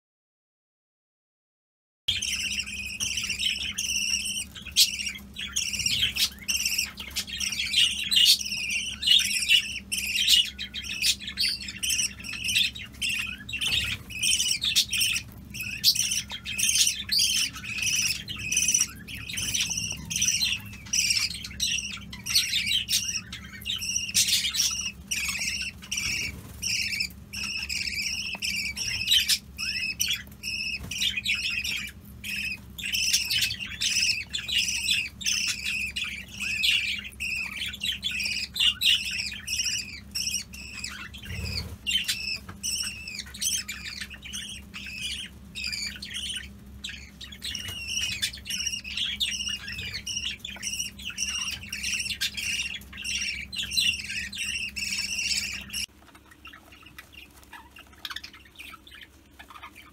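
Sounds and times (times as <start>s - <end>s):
budgerigars chattering: 2.1s - 59.9s.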